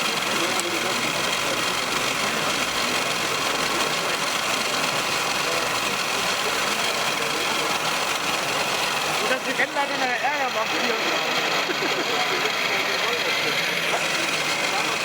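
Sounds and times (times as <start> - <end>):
model machine motors whirring: 0.0 - 15.0.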